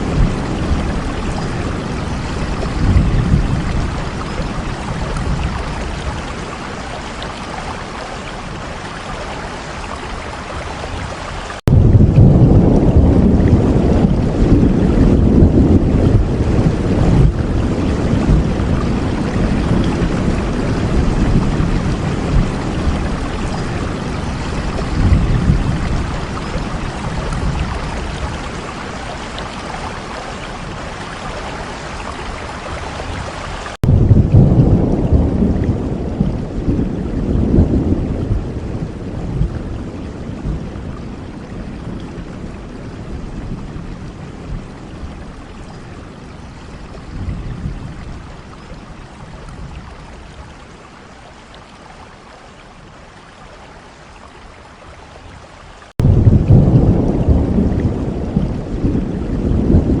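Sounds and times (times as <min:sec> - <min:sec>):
thunder rumbling: 0:00.0 - 0:09.6, 0:10.4 - 0:46.2, 0:56.0 - 1:00.0.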